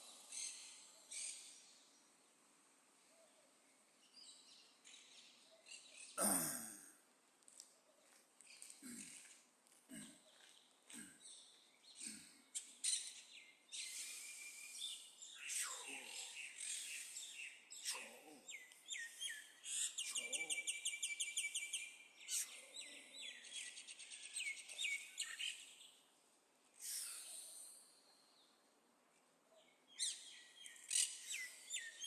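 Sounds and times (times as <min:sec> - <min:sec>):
songbirds chirping and trilling: 0:00.0 - 0:06.8, 0:07.6 - 0:32.0.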